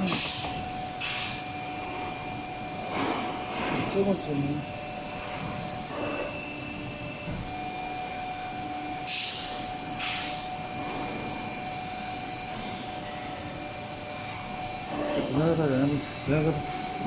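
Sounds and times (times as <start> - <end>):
workshop machinery hum: 0.0 - 17.0.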